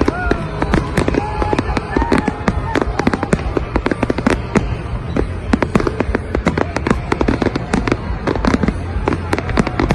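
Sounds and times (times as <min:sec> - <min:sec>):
firework bangs and pops: 0:00.0 - 0:09.9.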